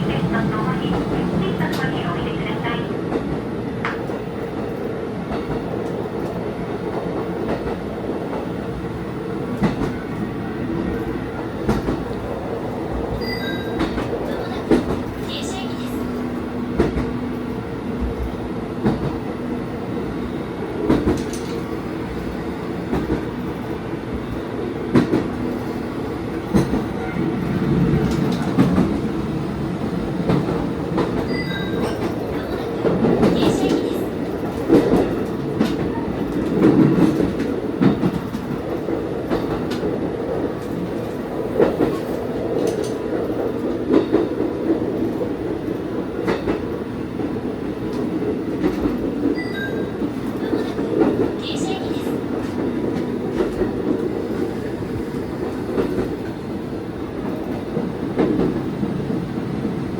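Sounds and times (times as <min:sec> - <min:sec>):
train engine hum: 0:00.0 - 0:59.9.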